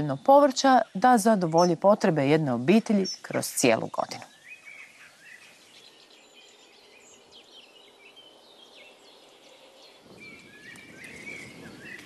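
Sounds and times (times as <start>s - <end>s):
birds chirping and whistling: 0.0s - 12.0s
outdoor background hiss: 0.0s - 12.0s.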